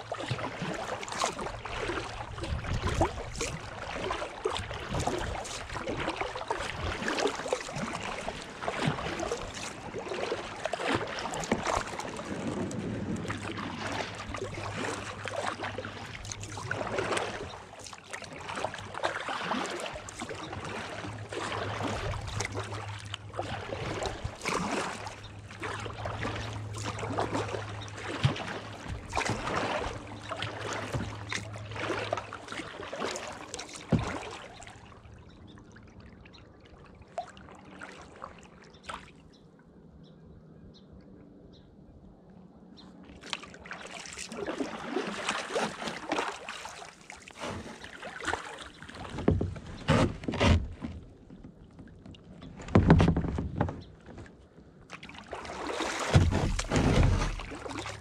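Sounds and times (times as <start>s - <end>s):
kayak paddle splashing in water: 0.0s - 35.2s, 36.7s - 39.2s, 43.1s - 58.0s.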